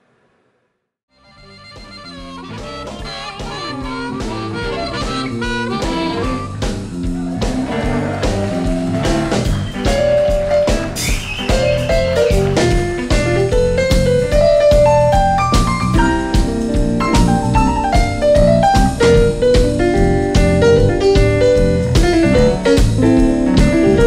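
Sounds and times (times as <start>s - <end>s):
instrumental music with steady beat: 1.1s - 24.0s.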